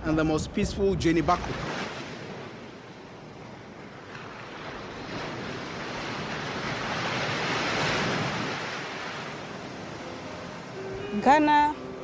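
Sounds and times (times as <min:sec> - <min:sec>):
waves breaking: 0:00.0 - 0:12.0.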